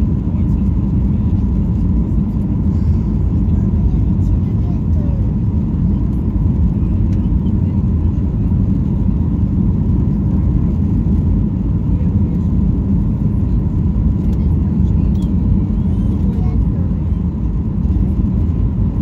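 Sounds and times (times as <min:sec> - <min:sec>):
jet engine low rumble: 0:00.0 - 0:19.0.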